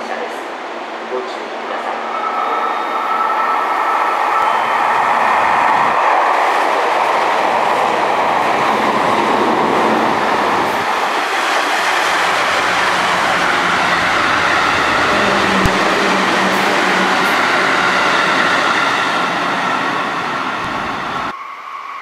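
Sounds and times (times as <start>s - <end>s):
train rumbling: 1.8s - 21.4s.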